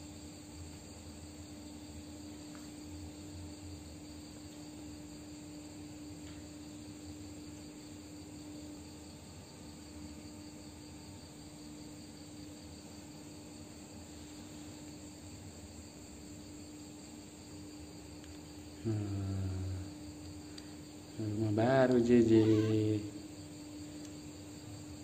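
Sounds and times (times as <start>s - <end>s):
constant low hum: 0.0s - 25.0s.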